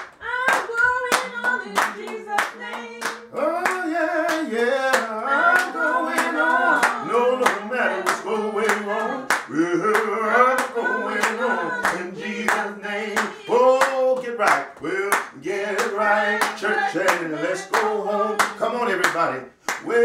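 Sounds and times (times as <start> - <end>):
hand clapping: 0.0 - 20.0
man singing gospel song: 1.2 - 20.0.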